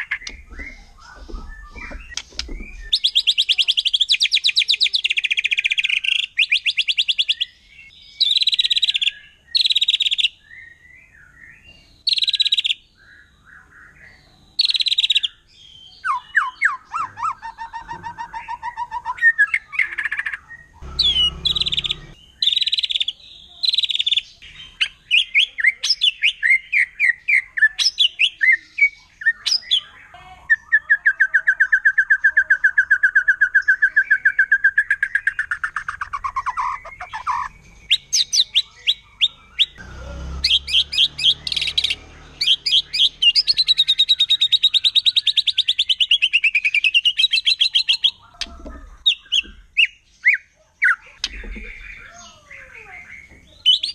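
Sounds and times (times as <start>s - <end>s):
songbird singing varied whistled song: 0.0s - 39.8s, 40.5s - 53.9s.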